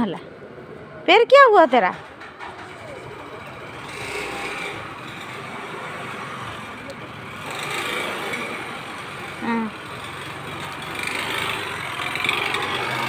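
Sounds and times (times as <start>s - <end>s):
passing motor vehicles: 0.0s - 13.0s.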